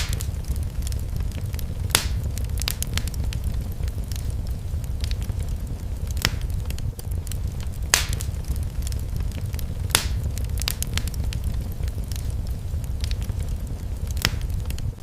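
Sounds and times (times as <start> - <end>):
fire crackling: 0.0 - 15.0
low fire rumble: 0.0 - 15.0
sharp fire pops: 0.0 - 15.0.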